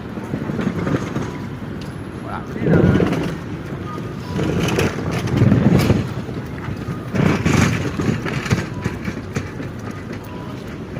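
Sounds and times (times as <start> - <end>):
street noise: 0.0 - 10.9
wind rumbling on microphone: 0.0 - 10.9.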